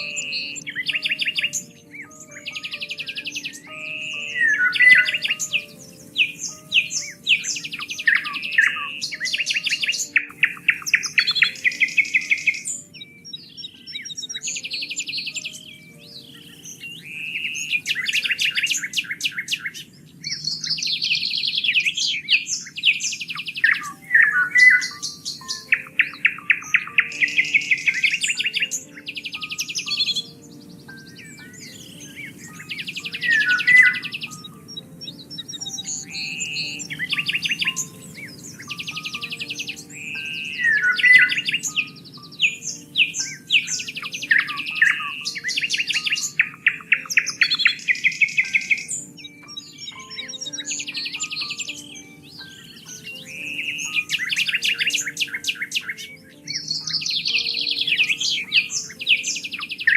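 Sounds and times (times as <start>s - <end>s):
soft background music: 0.0s - 59.9s
songbirds chirping and trilling: 0.0s - 59.9s.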